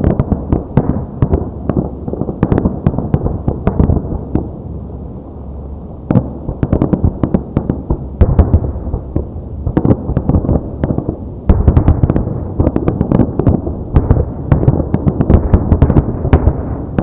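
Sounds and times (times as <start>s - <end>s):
fireworks bursting: 0.0s - 4.8s, 6.0s - 17.0s.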